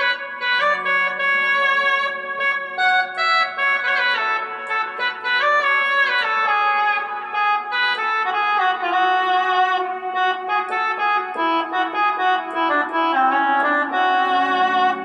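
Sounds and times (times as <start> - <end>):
synthesizer organ-like melody: 0.0 - 15.0.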